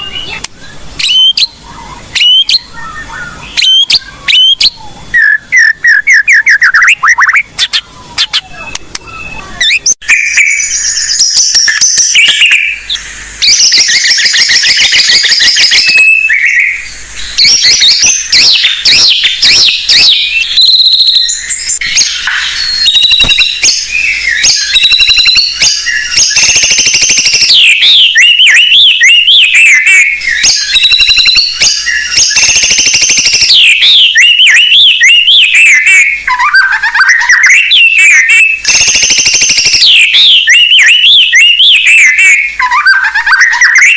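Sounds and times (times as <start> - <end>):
songbird whistling and trilling: 0.0 - 43.9.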